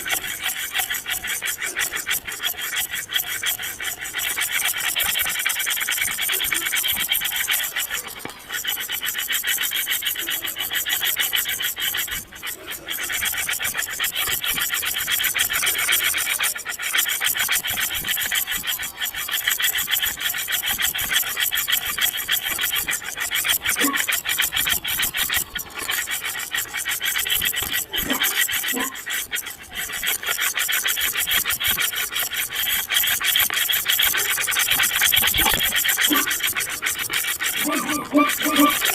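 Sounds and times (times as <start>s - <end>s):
rasping scraping noise: 0.0s - 38.9s.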